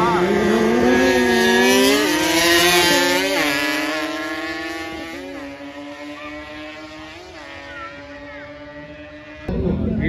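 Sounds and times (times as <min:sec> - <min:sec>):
racing engine at high revs: 0:00.0 - 0:09.5
engine upshifts: 0:00.0 - 0:10.0.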